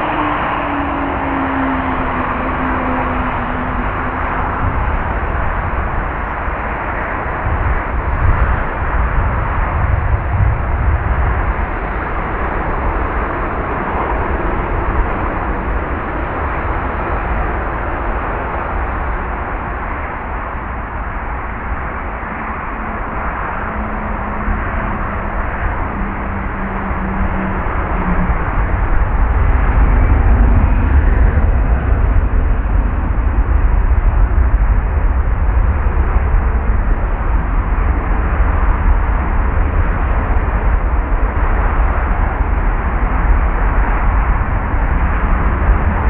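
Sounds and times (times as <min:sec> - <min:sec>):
jet engine noise: 0:00.0 - 0:46.0.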